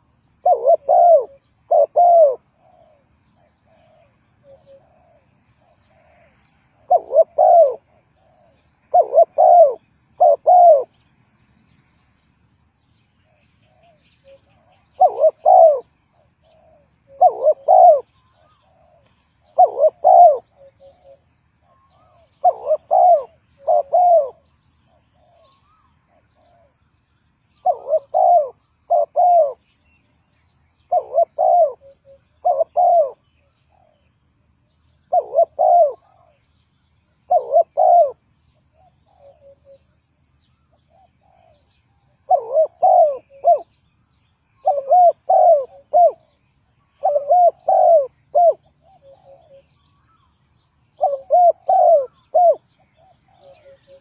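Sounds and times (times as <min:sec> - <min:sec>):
dove cooing: 0:00.0 - 0:11.0, 0:13.2 - 0:26.8, 0:27.6 - 0:29.8, 0:30.8 - 0:34.2, 0:35.0 - 0:36.5, 0:37.2 - 0:40.0, 0:40.7 - 0:43.8, 0:44.6 - 0:54.0.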